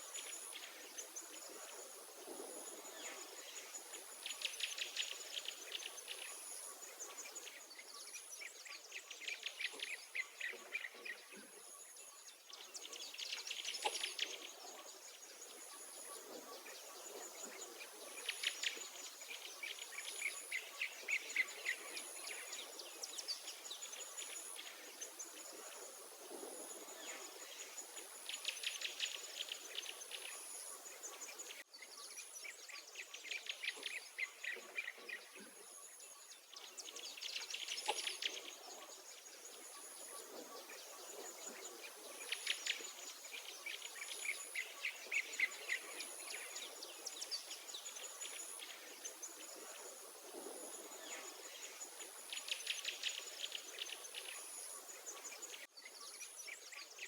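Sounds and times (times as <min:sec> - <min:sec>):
songbirds trilling and chirping: 0:00.0 - 0:57.0.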